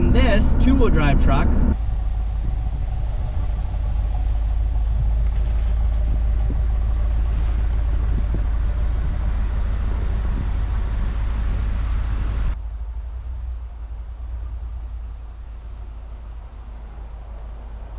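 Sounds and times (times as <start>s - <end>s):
truck engine and road rumble: 0.0s - 17.9s.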